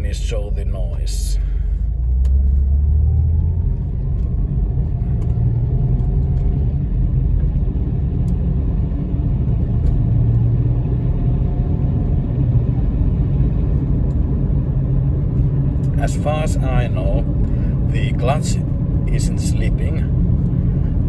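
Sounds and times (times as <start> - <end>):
car engine and road rumble: 0.0 - 21.0
faint transmission whine: 0.0 - 21.0.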